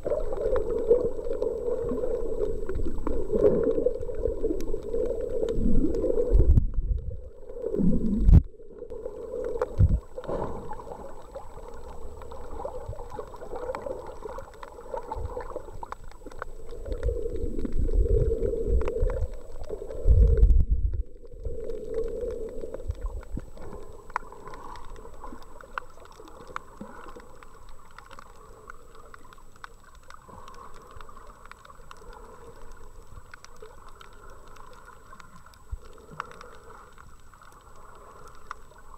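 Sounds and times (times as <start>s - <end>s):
underwater water rumbling and gurgling: 0.0s - 38.9s.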